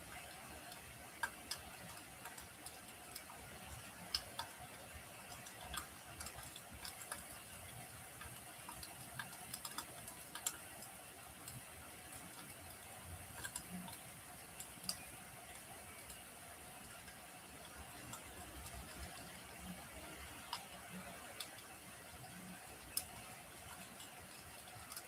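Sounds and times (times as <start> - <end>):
fire popping and snapping: 0.6 - 25.0.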